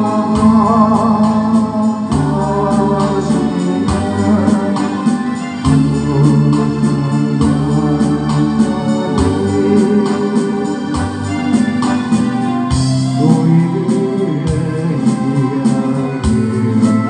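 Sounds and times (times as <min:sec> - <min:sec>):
electronic organ music with beat: 0:00.0 - 0:17.0.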